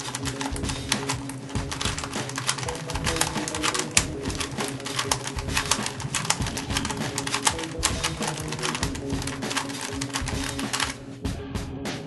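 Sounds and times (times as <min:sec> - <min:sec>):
puzzle cube clicking rapidly: 0:00.0 - 0:11.0.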